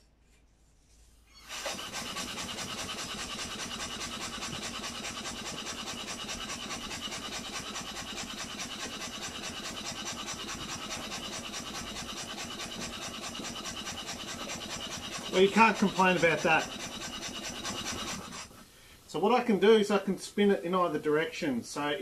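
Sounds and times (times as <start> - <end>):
steam engine exhaust puffs: 1.4 - 19.6.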